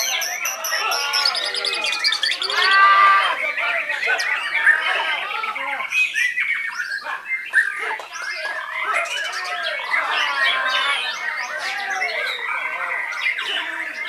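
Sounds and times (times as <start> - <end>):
birds singing whistled phrases: 0.0 - 14.0.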